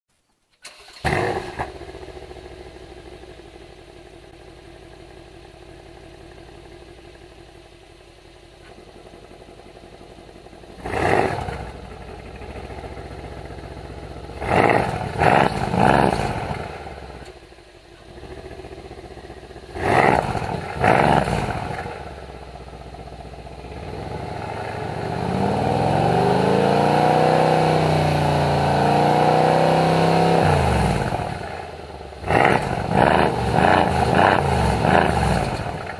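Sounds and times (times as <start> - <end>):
car engine revving and idling: 0.6 - 35.9.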